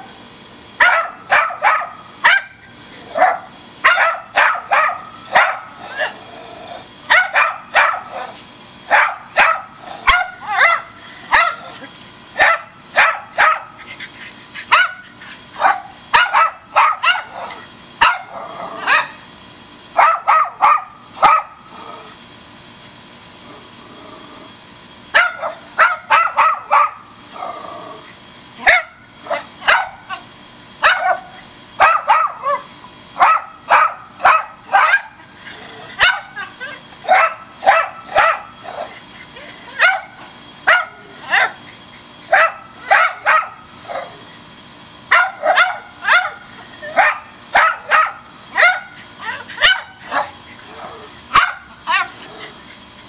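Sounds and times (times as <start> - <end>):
dogs barking: 0.8 - 6.3, 7.1 - 11.8, 12.4 - 19.2, 20.0 - 21.6, 25.1 - 27.1, 28.6 - 44.2, 45.0 - 53.0.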